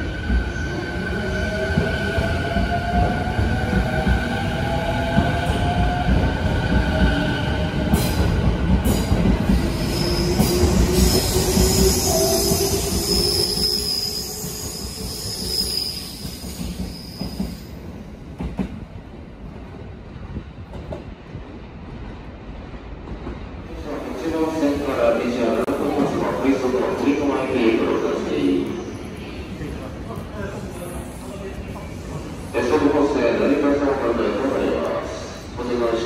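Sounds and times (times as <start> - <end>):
train wheels rumbling: 0.0 - 32.9.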